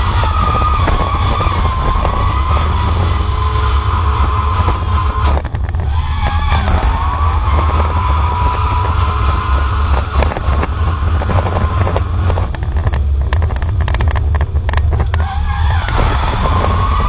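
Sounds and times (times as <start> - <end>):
race car engine rumbling: 0.0 - 17.0
sharp knocks and rattles: 0.2 - 17.0.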